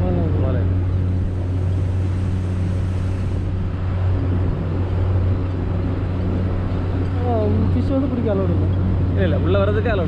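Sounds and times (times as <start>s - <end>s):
motorboat engine droning: 0.0s - 10.0s
water rushing past hull: 0.0s - 10.0s.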